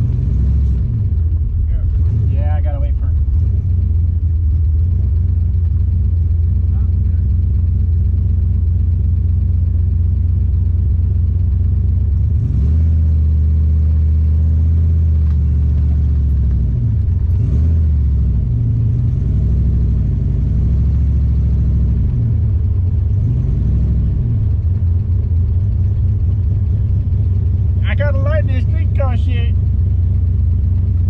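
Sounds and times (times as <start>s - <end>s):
car engine revving inside cabin: 0.0s - 31.0s.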